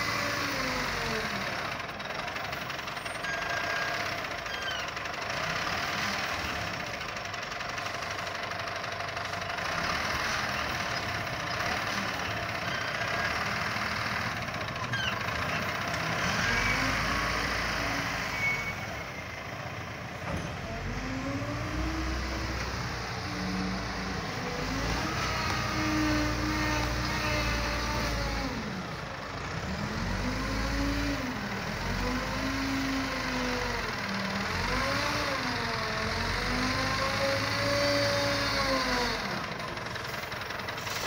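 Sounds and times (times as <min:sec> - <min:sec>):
diesel engine revving: 0:00.0 - 0:41.0.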